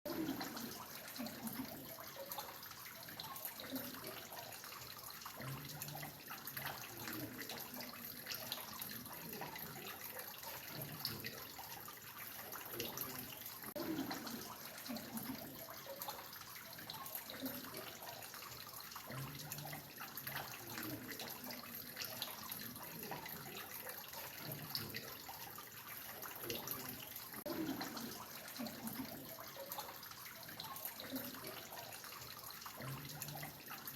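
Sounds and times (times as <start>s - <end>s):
water dripping and trickling: 0.1s - 33.9s.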